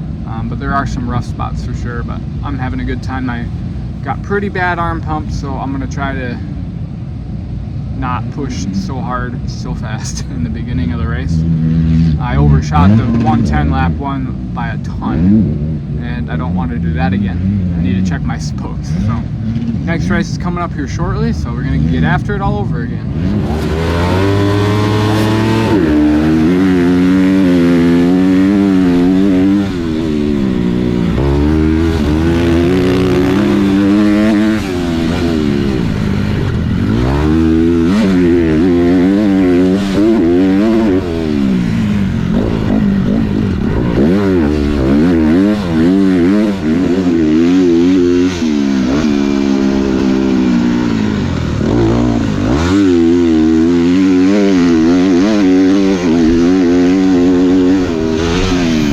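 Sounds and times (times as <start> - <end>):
dirt bike engine revving: 0.0 - 6.5, 8.0 - 58.9.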